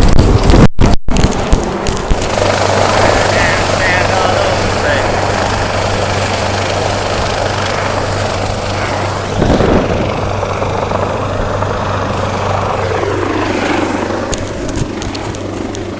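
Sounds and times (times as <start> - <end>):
helicopter hovering: 0.0 - 15.9.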